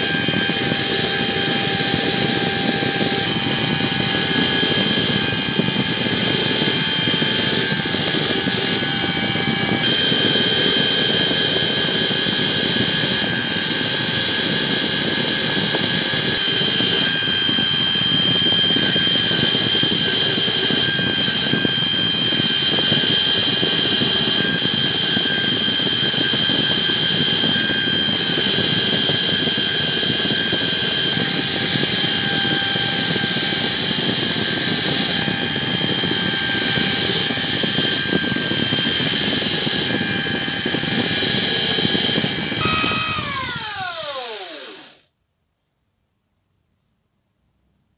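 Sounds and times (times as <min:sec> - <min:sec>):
electric drill motor whine: 0:00.0 - 0:45.0.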